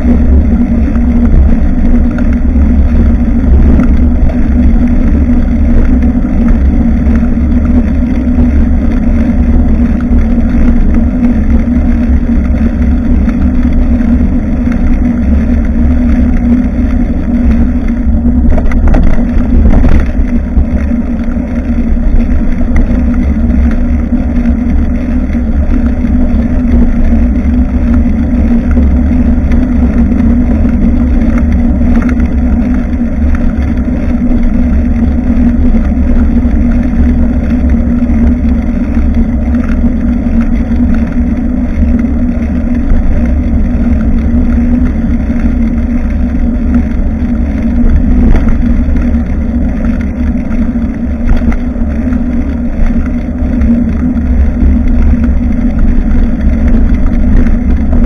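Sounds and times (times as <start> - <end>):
bicycle road noise: 0.0 - 58.0
constant hum: 0.0 - 58.0
wind on microphone: 0.0 - 58.0.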